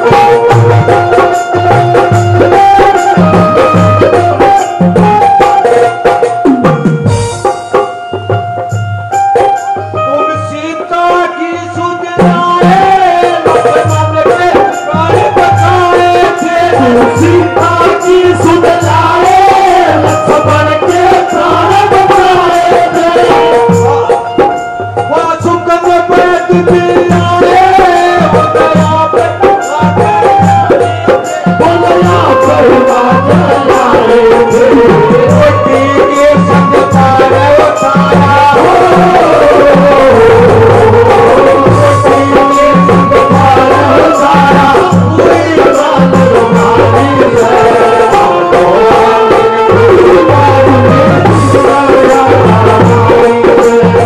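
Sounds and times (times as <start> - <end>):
rattling percussion: 0.0 - 54.0
regular drum beat: 0.0 - 54.0.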